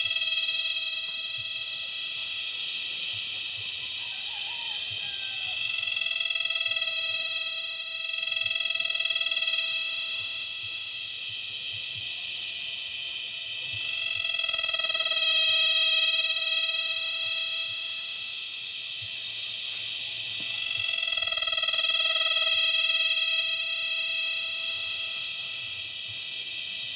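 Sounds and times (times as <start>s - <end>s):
cicada buzzing: 0.0s - 26.9s.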